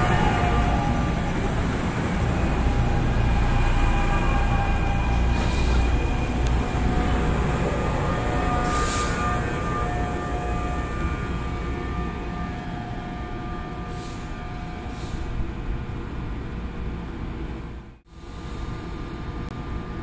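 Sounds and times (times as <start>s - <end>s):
passing train rumble: 0.0s - 20.0s.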